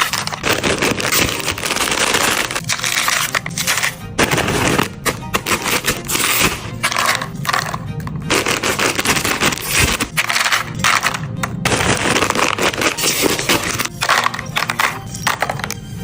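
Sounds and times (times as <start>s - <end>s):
food packages clinking and crinkling: 0.0s - 16.0s.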